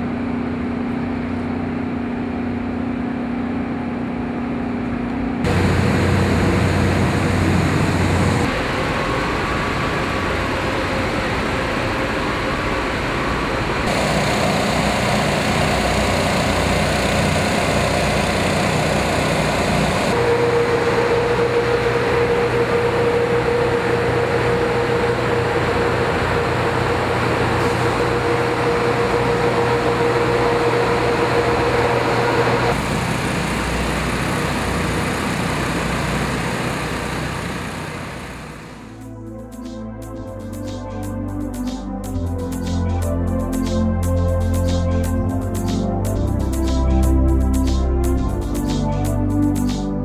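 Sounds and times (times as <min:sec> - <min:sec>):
blower machine drone: 0:00.0 - 0:50.0
steady whine and hum: 0:00.0 - 0:50.0.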